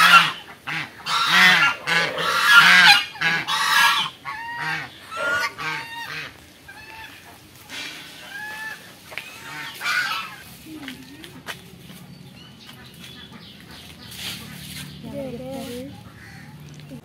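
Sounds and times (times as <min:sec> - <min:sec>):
geese honking: 0:00.0 - 0:11.5, 0:12.3 - 0:16.8.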